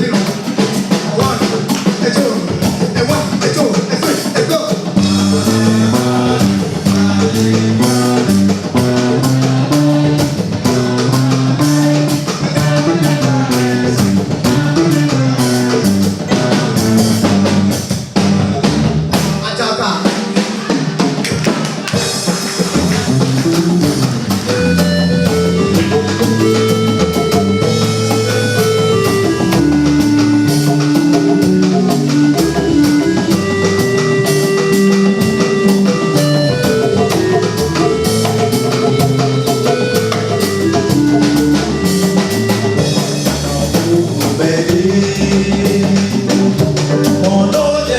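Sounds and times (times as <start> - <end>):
drum kit beat: 0.0 - 47.9
bass and melodic instruments: 4.8 - 19.6, 21.1 - 47.9.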